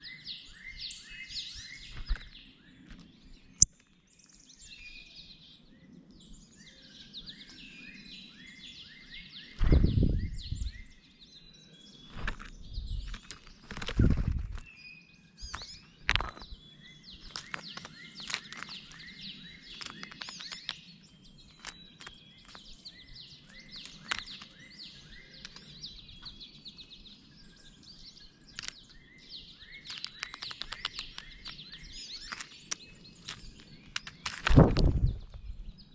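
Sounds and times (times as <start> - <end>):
birds chirping and calling: 0.0 - 35.9.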